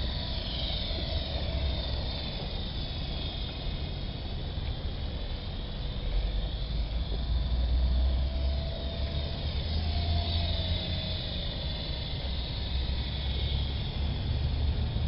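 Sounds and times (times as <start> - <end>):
toy helicopter rotors whining: 0.0 - 15.0.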